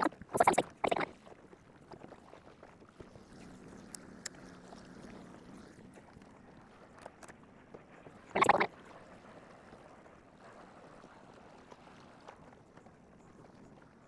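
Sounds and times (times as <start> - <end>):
small boat trolling: 0.0 - 14.0.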